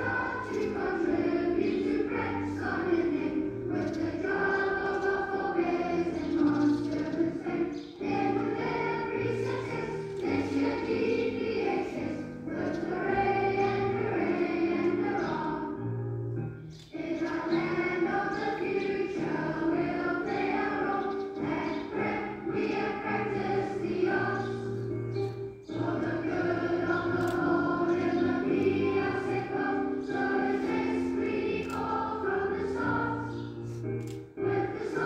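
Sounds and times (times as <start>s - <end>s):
children's choir singing: 0.0s - 35.0s.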